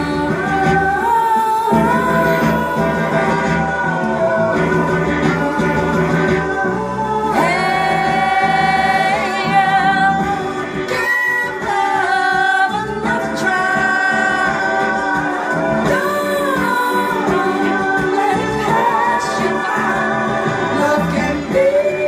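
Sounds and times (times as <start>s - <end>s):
background music: 0.0s - 22.0s
woman singing with vibrato: 0.0s - 22.0s.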